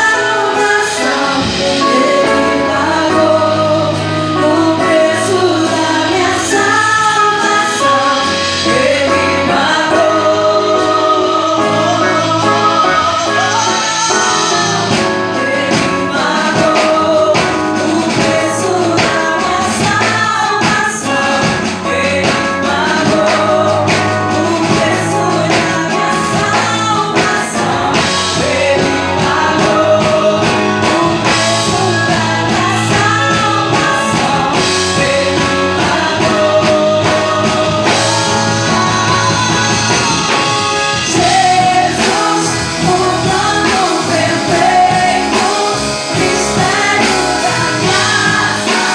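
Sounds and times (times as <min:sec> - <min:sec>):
instrumental backing with beat: 0:00.0 - 0:48.9
woman singing gospel song: 0:00.0 - 0:48.9.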